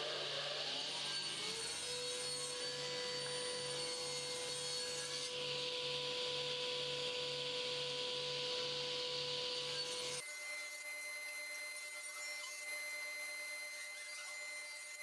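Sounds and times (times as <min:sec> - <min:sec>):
table saw cutting wood: 0:00.0 - 0:15.0.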